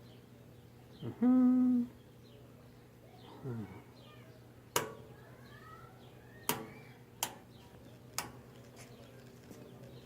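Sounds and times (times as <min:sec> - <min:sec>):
faint bird chirps: 0:00.0 - 0:10.0
low electrical hum: 0:00.0 - 0:10.0.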